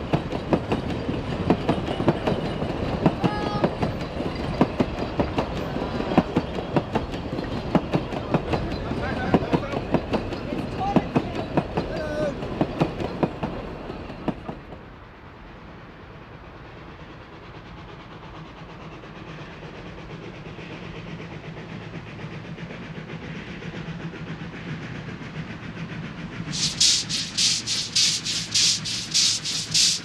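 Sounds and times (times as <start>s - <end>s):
train wheels clicking over rail joints: 0.0s - 14.9s, 17.5s - 30.0s
steam locomotive approaching: 0.0s - 30.0s.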